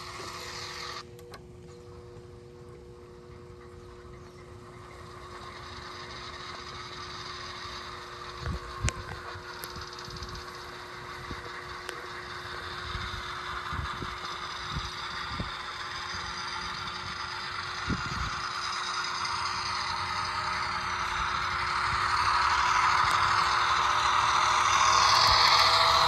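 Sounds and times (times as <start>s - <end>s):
model locomotive motor whirring: 0.0s - 26.0s.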